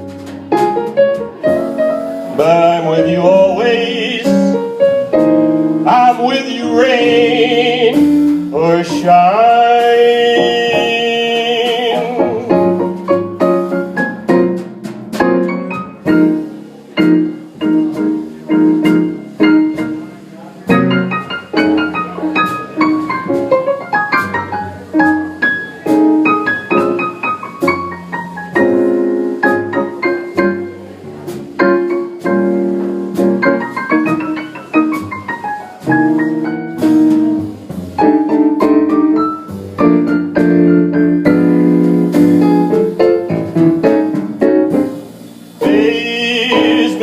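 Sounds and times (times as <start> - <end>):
jazz piano solo: 0.0 - 47.0.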